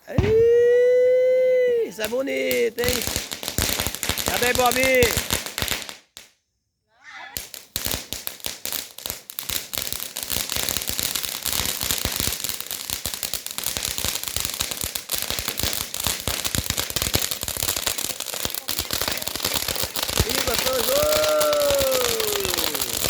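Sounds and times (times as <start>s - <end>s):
fireworks crackling: 0.0s - 6.4s, 7.4s - 23.0s.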